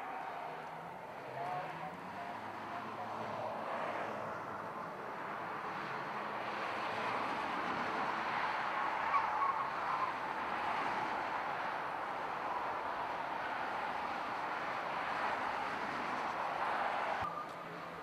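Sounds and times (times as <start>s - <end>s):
race cars engines and tyres: 0.0s - 18.0s.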